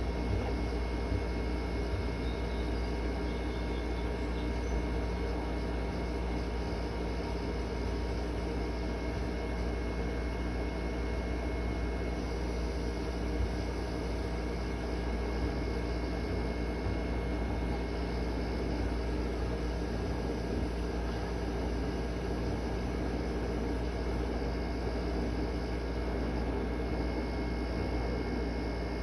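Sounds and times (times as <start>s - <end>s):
air conditioner running: 0.0s - 29.0s.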